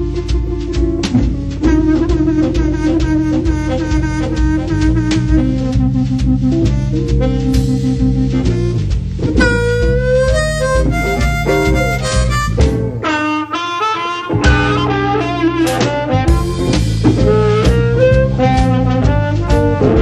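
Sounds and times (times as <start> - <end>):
bass and drums: 0.0 - 20.0
harmonica solo: 0.0 - 20.0.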